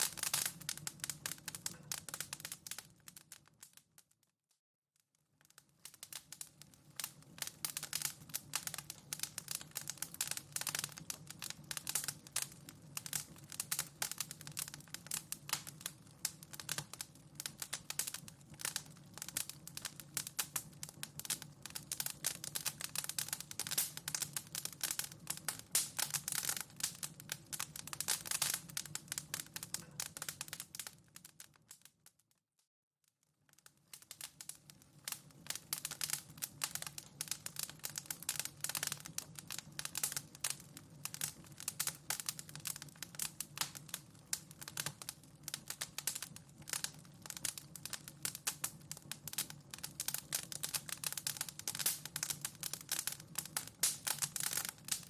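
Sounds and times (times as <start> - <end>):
wood fire crackling: 0.0 - 4.2, 5.2 - 32.2, 33.4 - 55.0.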